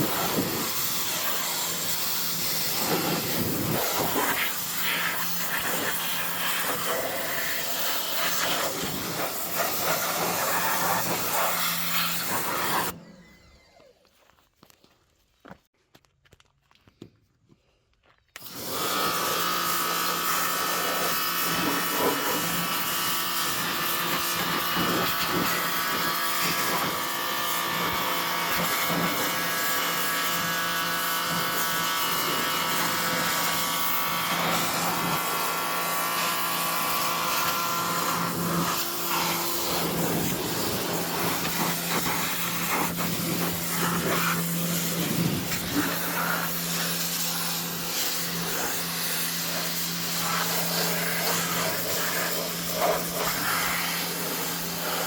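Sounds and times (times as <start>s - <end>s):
water spray hissing: 0.0s - 12.9s, 18.8s - 55.0s
pressure washer motor humming: 0.0s - 13.9s, 18.4s - 55.0s.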